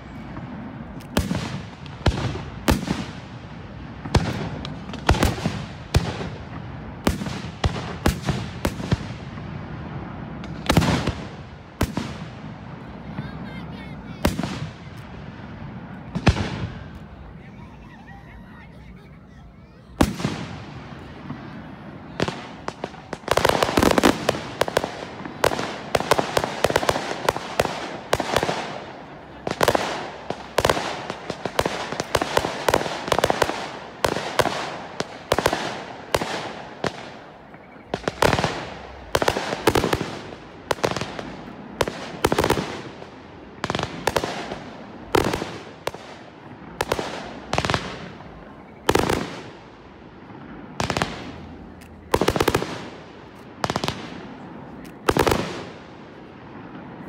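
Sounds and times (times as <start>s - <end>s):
fireworks bangs with crackle: 0.0s - 17.6s, 19.8s - 57.0s.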